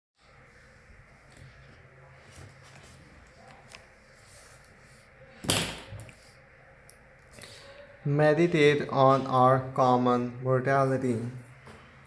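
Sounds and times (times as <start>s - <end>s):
faint room noise: 0.2s - 12.0s.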